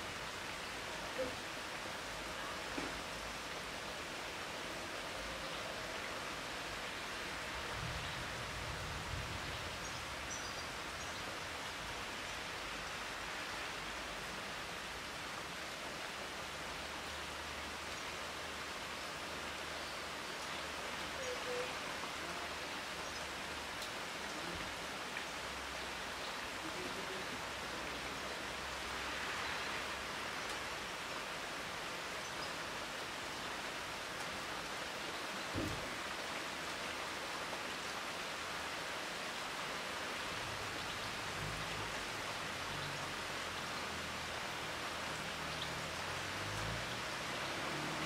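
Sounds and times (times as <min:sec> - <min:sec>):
rain falling on foliage: 0:00.0 - 0:48.0.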